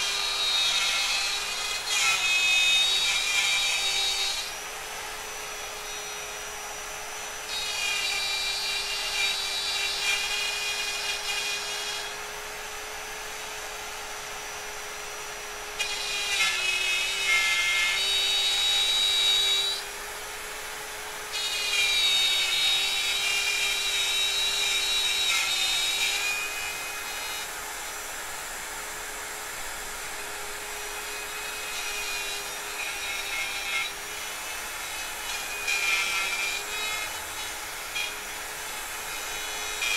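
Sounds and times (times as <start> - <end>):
router cutting into wood: 0.0 - 39.9
wood router whining: 0.0 - 39.9.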